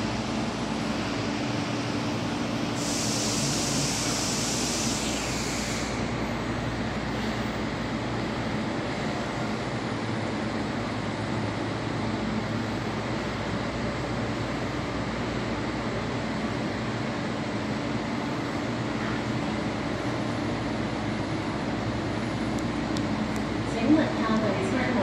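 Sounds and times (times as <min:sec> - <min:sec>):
electric train rumble and hiss: 0:00.0 - 0:25.0.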